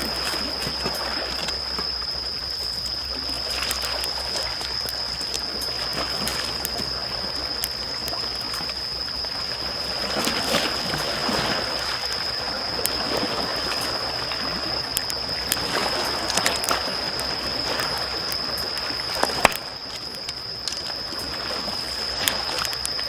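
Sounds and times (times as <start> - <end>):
campfire crackling and popping: 0.0 - 23.0
small waves washing ashore: 0.0 - 23.0.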